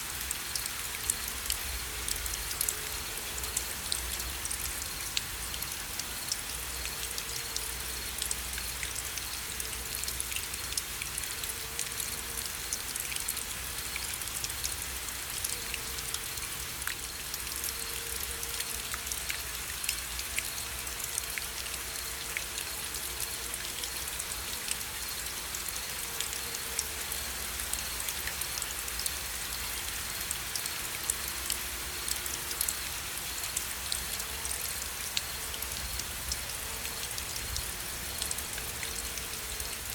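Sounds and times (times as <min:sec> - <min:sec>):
raindrops ticking on a surface: 0:00.0 - 0:39.9
steady rain: 0:00.0 - 0:39.9.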